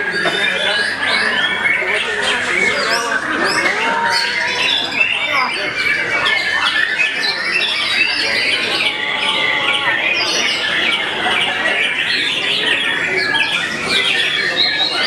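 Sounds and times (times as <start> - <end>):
birds singing whistles and trills: 0.0 - 15.0.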